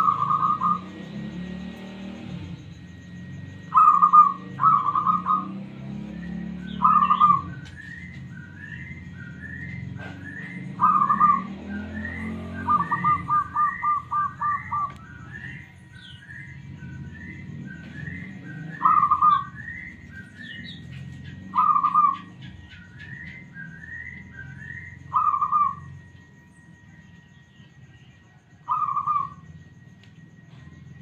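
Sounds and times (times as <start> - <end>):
dove cooing: 0.0 - 26.2, 28.3 - 29.6.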